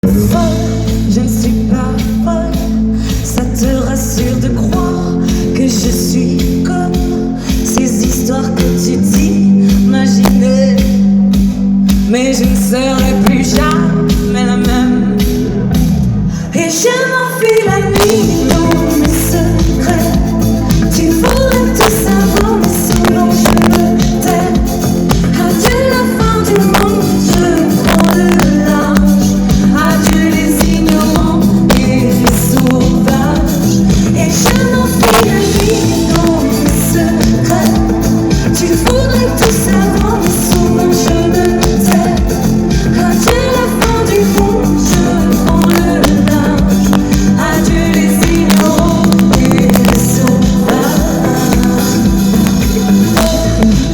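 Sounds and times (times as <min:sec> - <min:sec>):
live pop-rock band: 0:00.0 - 0:53.9
woman singing: 0:00.0 - 0:53.9.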